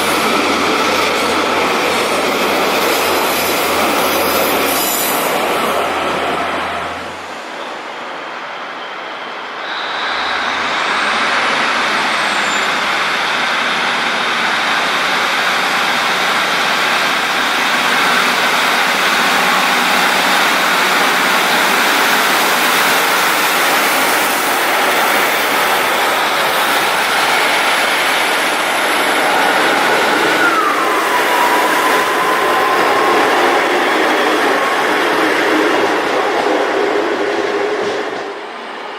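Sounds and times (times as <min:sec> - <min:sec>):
train wheels rushing: 0:00.0 - 0:38.9.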